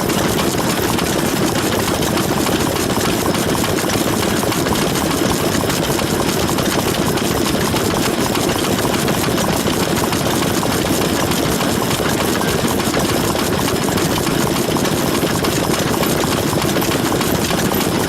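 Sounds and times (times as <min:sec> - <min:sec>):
stationary engine chugging: 0:00.0 - 0:18.0.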